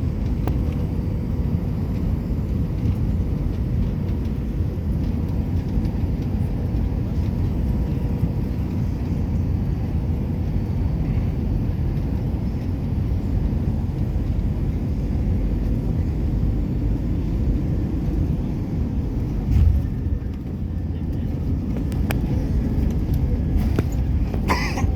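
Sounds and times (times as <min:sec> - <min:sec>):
jet engines rumbling: 0:00.0 - 0:24.9.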